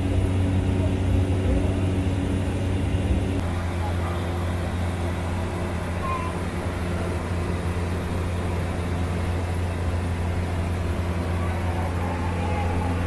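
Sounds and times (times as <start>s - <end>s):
propeller engine cabin drone: 0.0s - 13.0s.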